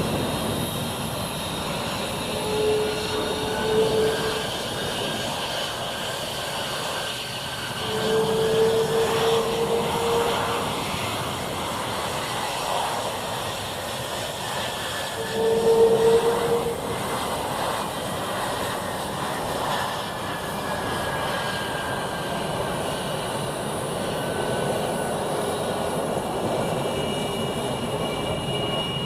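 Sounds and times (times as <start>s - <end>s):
jet engines rushing with whines: 0.0s - 29.0s.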